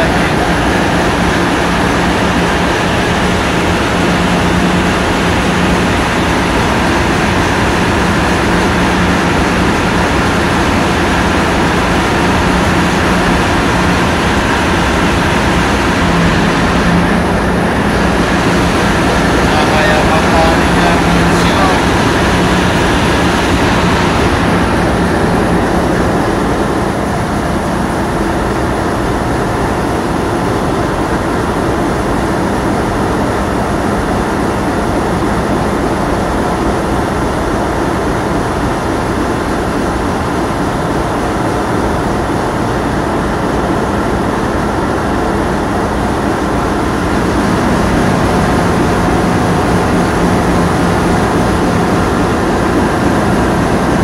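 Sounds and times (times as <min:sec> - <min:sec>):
boat engine droning: 0:00.0 - 0:54.0
water wash: 0:00.0 - 0:54.0.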